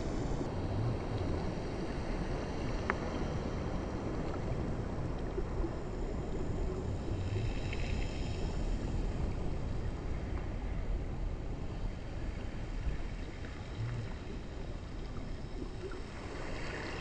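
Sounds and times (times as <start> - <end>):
muffled underwater sloshing: 0.0 - 17.0.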